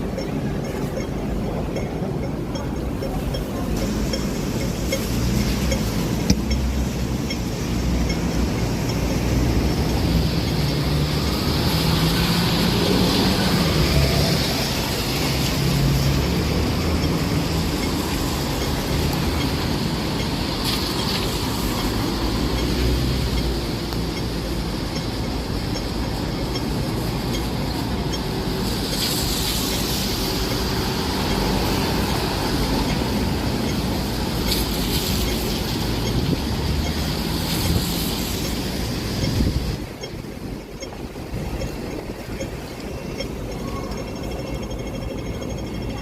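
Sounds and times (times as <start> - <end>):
strong wind gusts: 0.0 - 46.0
heavy rain: 3.1 - 40.6.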